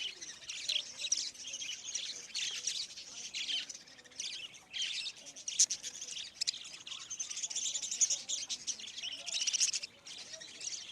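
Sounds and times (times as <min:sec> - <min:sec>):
cage birds chirping and twittering: 0:00.0 - 0:10.9.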